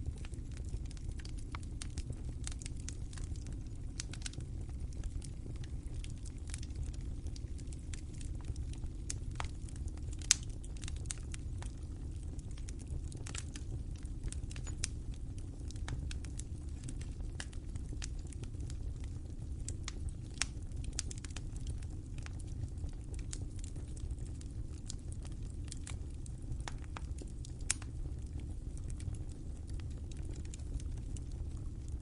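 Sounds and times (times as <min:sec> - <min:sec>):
fire pops and snaps: 0:00.0 - 0:32.0
wood fire crackling: 0:00.0 - 0:32.0.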